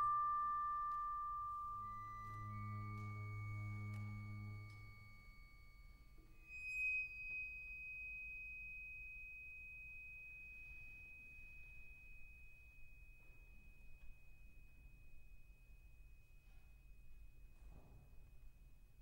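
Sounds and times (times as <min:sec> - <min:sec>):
bright high sustained tone: 0:00.0 - 0:15.5.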